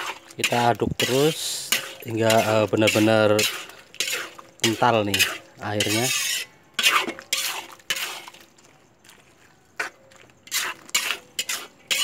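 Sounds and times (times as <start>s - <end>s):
metal spatula scraping a wok: 0.0s - 8.6s, 9.8s - 12.0s.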